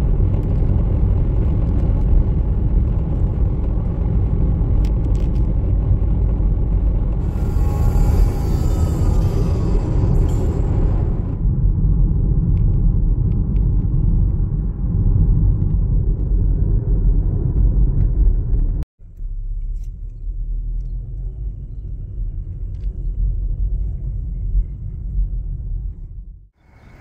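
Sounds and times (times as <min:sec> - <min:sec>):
car driving rumble from inside: 0:00.0 - 0:27.0.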